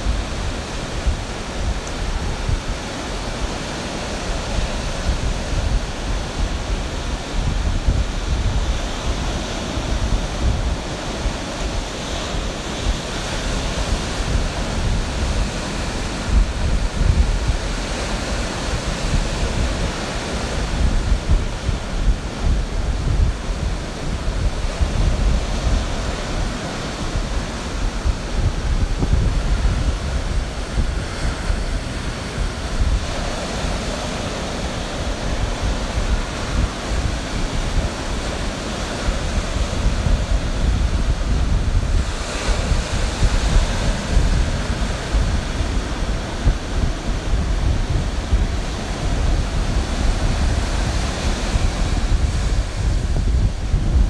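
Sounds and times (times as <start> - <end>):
ocean surf washing in: 0.0 - 54.0
wind rumbling on microphone: 0.0 - 54.0.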